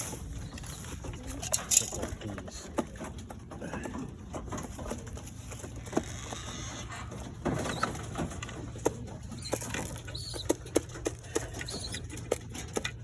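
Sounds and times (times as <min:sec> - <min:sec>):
doves cooing: 0:00.0 - 0:13.0.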